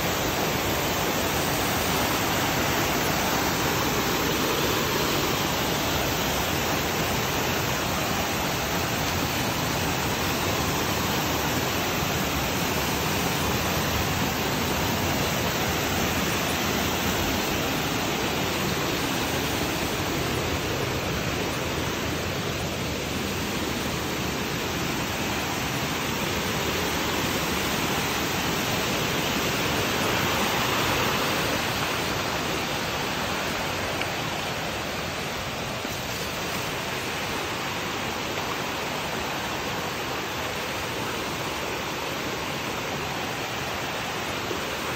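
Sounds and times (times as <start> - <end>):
waterfall rushing over rocks: 0.0 - 44.9.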